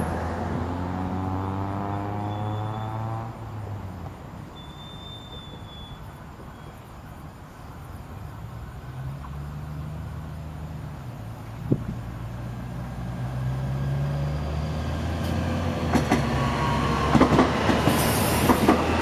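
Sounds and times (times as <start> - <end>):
electric train approaching hum: 0.0 - 19.0.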